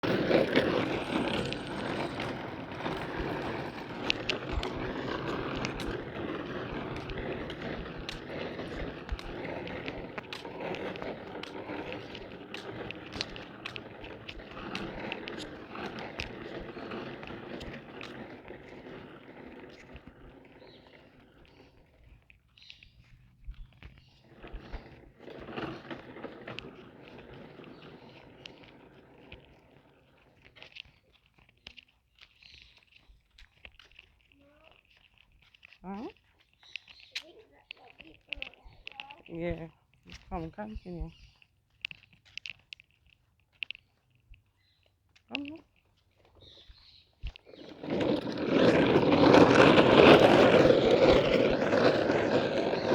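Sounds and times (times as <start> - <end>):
toy tractor wheels rolling: 0.0 - 52.9.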